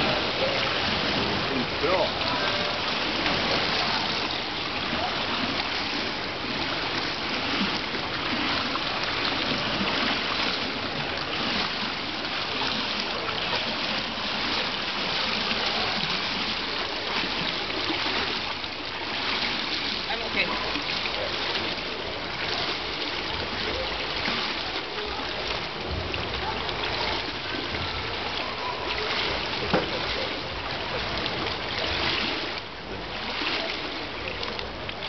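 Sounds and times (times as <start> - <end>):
water rushing and splashing: 0.0 - 35.0.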